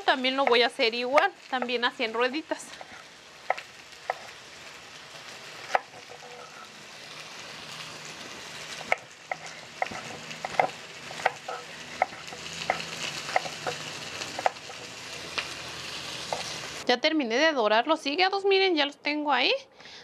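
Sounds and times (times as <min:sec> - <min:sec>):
liver sizzling in oil: 0:00.0 - 0:16.9.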